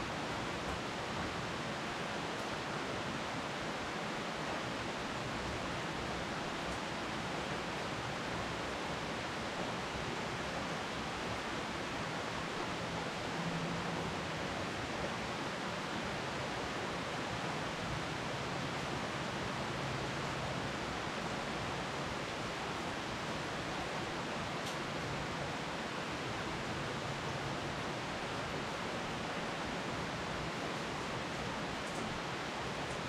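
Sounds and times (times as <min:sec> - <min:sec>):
rain falling on foliage: 0:00.0 - 0:33.0.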